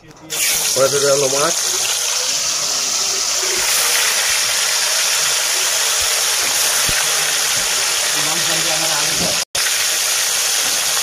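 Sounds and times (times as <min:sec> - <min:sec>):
fish sizzling in hot oil: 0:00.3 - 0:11.0.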